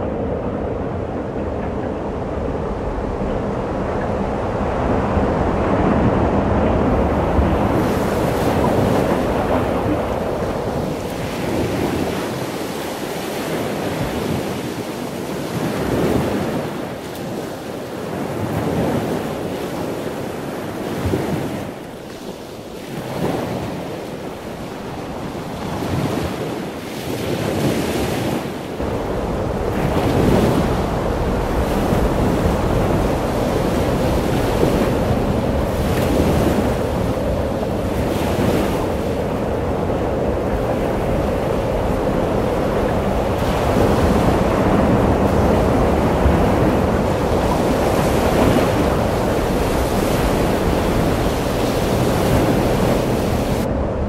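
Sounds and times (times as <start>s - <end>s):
ocean surf breaking: 0.0s - 54.0s
wind rumbling on microphone: 0.0s - 54.0s.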